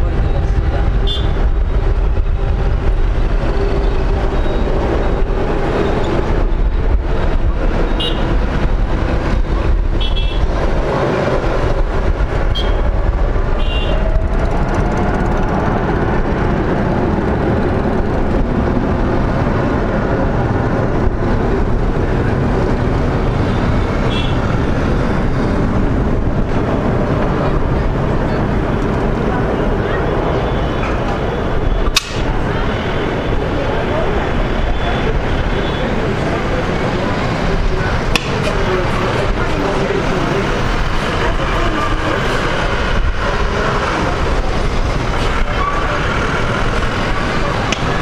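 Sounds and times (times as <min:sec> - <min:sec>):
jet engines rumbling and whining: 0:00.0 - 0:48.0.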